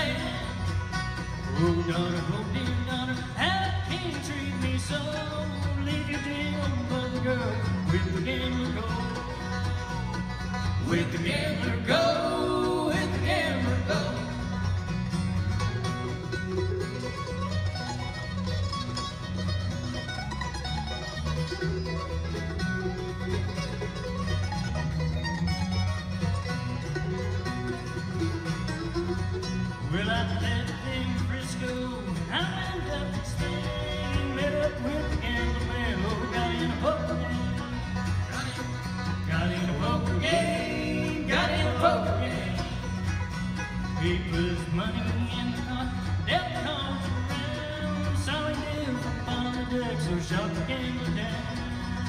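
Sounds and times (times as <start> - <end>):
bluegrass band playing: 0.0 - 52.0
sliding high fiddle notes: 0.0 - 52.0.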